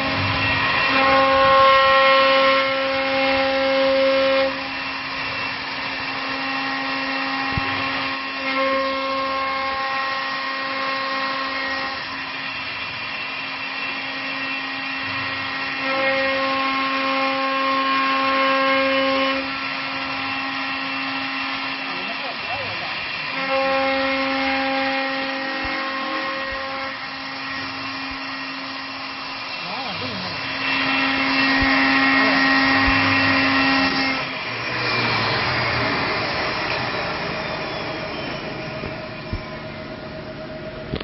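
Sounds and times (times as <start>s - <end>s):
whining cutter tones: 0.0s - 41.0s
wood lathe motor hum: 0.0s - 41.0s.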